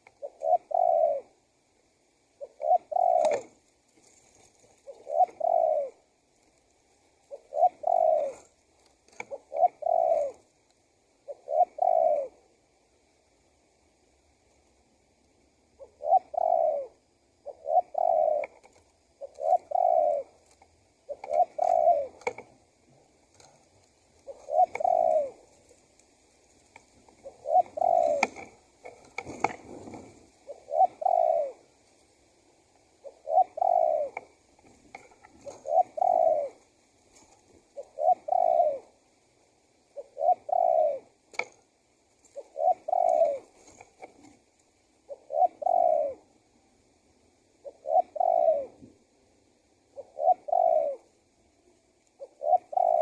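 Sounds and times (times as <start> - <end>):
dove cooing: 0.0 - 13.1, 15.5 - 53.0.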